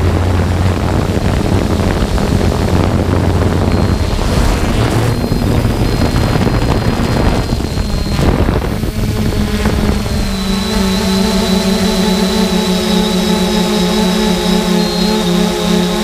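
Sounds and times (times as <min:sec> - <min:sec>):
wind rushing: 0:00.0 - 0:14.2
drone motors and propellers: 0:00.0 - 0:16.0.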